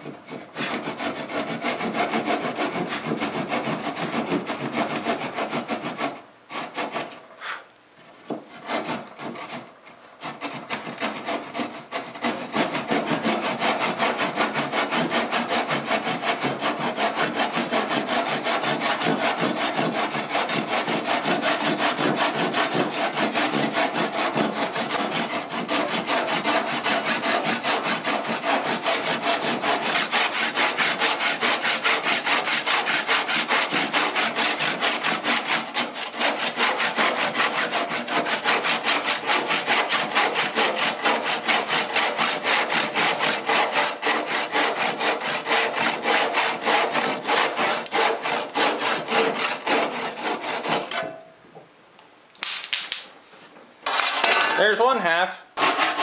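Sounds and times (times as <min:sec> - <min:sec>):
handsaw cutting wood: 0:00.0 - 0:07.7, 0:08.4 - 0:51.1, 0:55.6 - 0:56.0.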